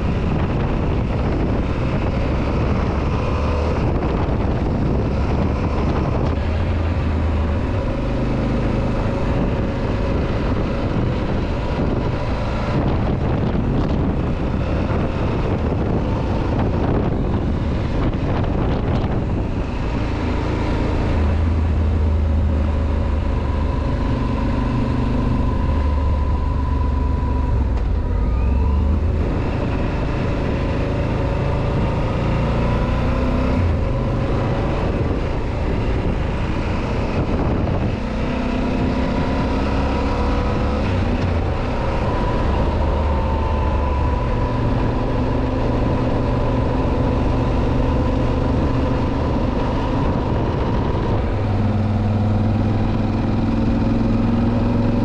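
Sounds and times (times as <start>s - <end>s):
motorcycle engine running: 0.0s - 55.0s
tyres on wet road: 0.0s - 55.0s
wind noise: 0.0s - 55.0s.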